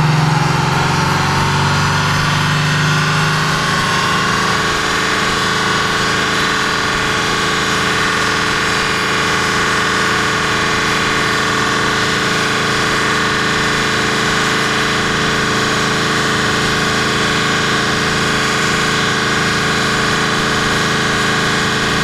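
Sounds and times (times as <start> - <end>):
car engine idling: 0.0 - 22.0
cooling fan running: 0.0 - 22.0.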